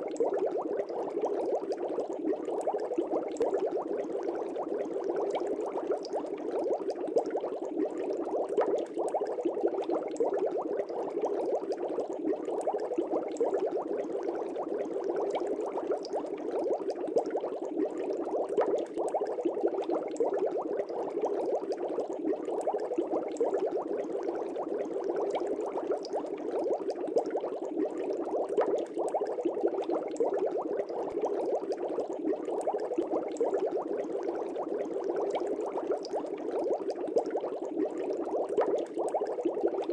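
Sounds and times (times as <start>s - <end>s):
fish tank air bubbling: 0.0s - 39.9s.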